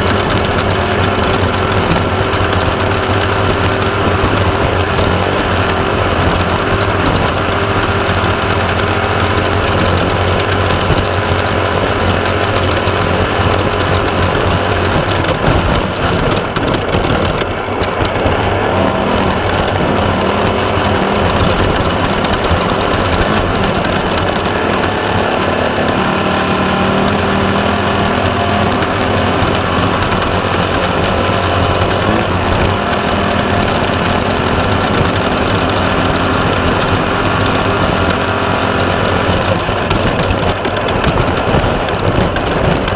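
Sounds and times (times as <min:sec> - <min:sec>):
race car engine running hard: 0:00.0 - 0:42.9.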